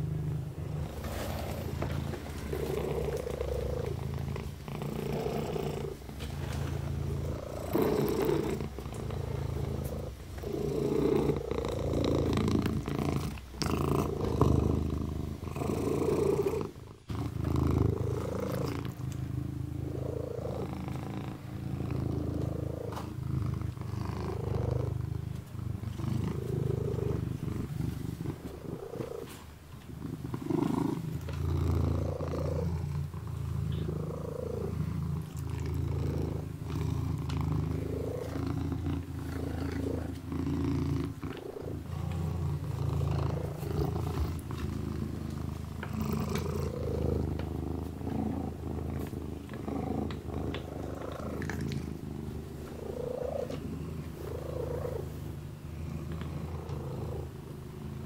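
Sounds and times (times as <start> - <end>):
kitten purring: 0.0 - 58.0.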